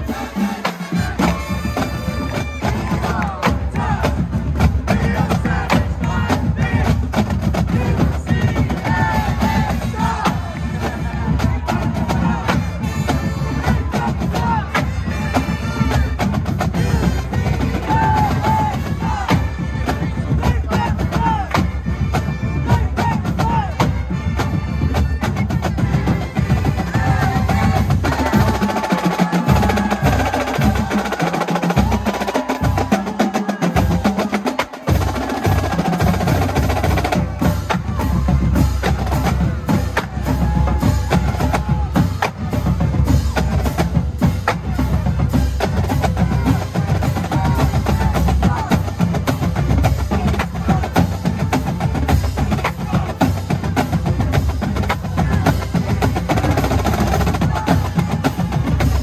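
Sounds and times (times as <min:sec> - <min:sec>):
bass drum pounding: 0:01.0 - 0:31.1, 0:31.8 - 0:59.0.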